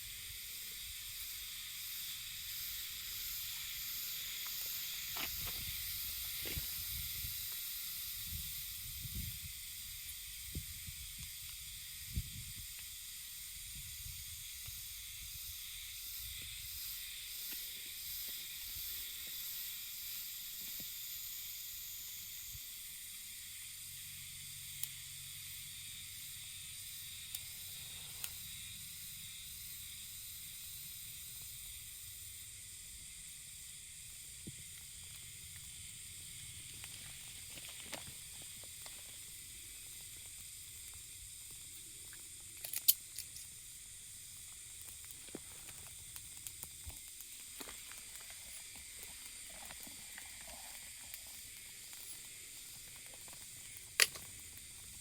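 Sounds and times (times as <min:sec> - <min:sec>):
high hiss: 0:00.0 - 0:55.0.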